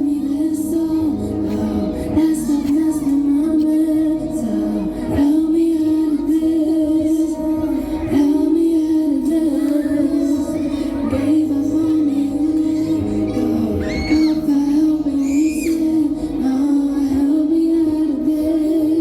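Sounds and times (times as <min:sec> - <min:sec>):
live amplified music: 0:00.0 - 0:19.0
woman singing held notes: 0:00.0 - 0:19.0.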